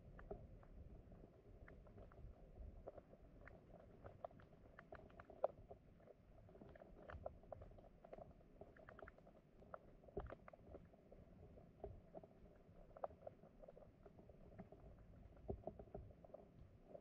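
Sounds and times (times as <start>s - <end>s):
stream water heard underwater: 0.0s - 17.0s.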